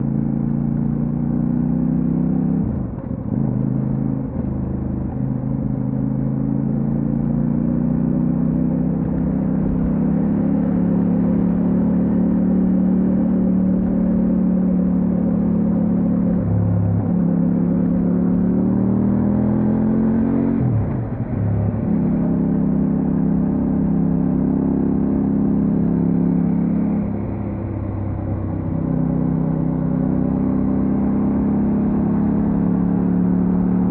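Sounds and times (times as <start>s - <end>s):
motorcycle engine revving: 5.4s - 33.9s.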